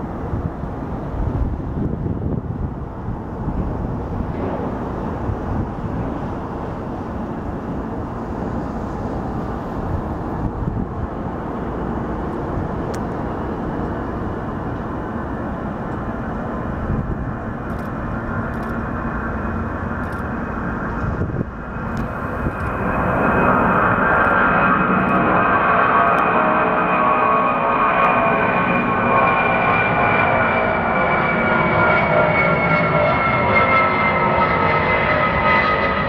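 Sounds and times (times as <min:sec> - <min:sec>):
jet engine whine: 0:00.0 - 0:36.0
jet engines deep rumble: 0:00.0 - 0:36.0.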